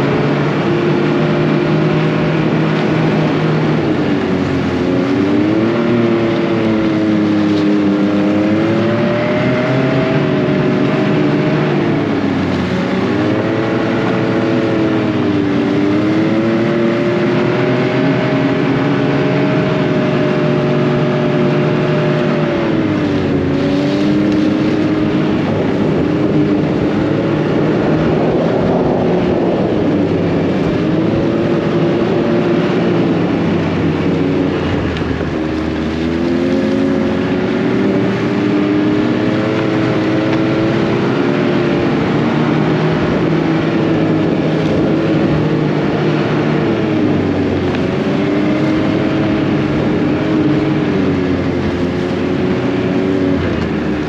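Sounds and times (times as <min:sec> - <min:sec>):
rush of riding noise: 0:00.0 - 0:54.0
snowmobile engine running: 0:00.0 - 0:54.0.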